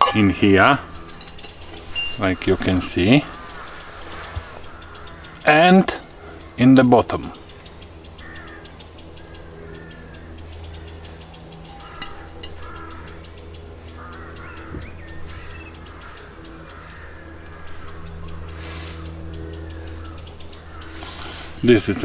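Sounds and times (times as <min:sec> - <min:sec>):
faint bird calls: 0:00.0 - 0:22.0
songbird descending trill: 0:00.0 - 0:22.0
steady low hum: 0:00.0 - 0:22.0.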